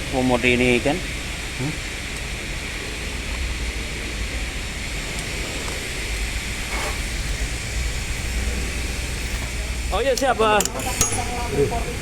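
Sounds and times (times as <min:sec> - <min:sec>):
diesel engine idling: 0:00.0 - 0:10.6.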